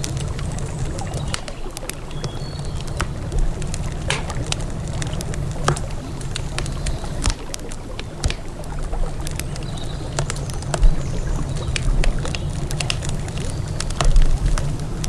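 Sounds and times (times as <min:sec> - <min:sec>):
campfire crackling: 0:00.0 - 0:15.0
fire popping: 0:00.1 - 0:15.0.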